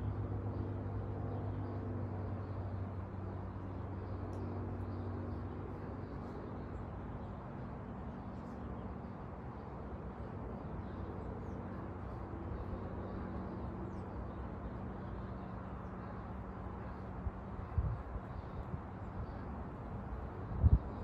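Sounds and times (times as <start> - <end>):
low outdoor background hum: 0.0 - 21.0.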